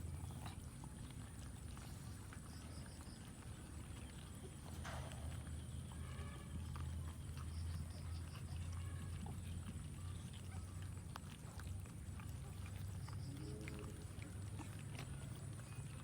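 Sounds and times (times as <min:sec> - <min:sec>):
cats chewing food: 0:00.0 - 0:16.0.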